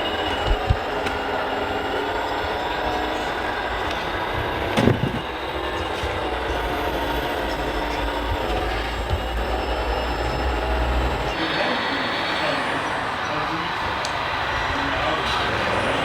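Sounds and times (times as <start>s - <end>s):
low hum: 0.0s - 16.0s
whine of small electric motors: 0.0s - 16.0s.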